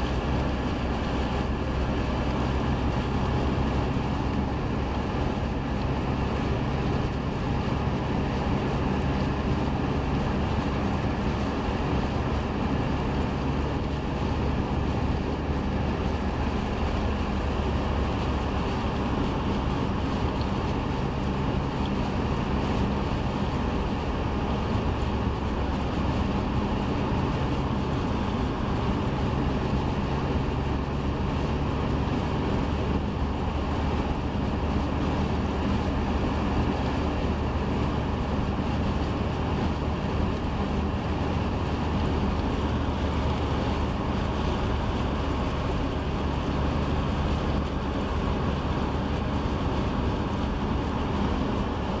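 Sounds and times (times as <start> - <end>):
car tyres and engine rumble: 0.0 - 52.0.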